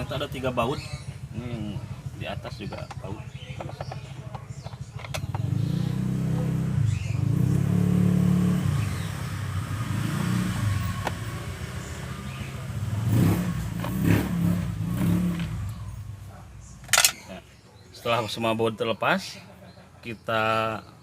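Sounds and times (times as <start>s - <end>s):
engine revving: 0.0s - 17.2s.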